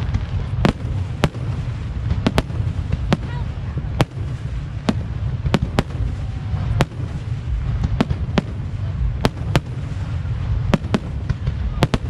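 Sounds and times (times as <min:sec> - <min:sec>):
fireworks bursting: 0:00.0 - 0:12.0
low rumble: 0:00.0 - 0:12.0.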